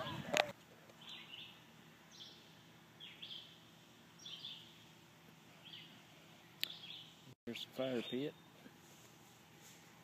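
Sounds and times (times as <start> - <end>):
quiet woodland background: 0.0 - 10.0.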